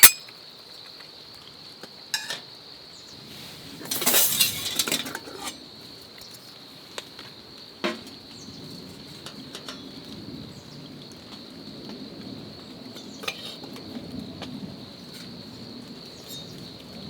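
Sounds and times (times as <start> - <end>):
rain on a shelter: 0.2 - 17.0.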